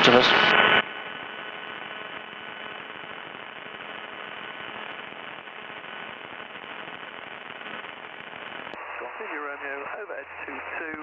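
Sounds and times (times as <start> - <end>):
radio hiss and crackle: 0.0 - 11.0.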